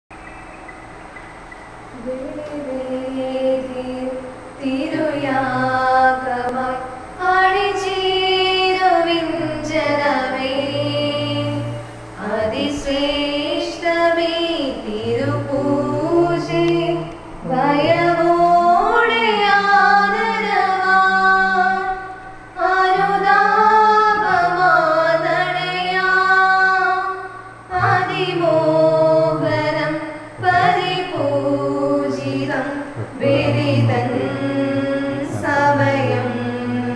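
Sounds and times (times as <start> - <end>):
church choir singing a hymn: 1.9 - 36.9
woman singing: 1.9 - 36.9.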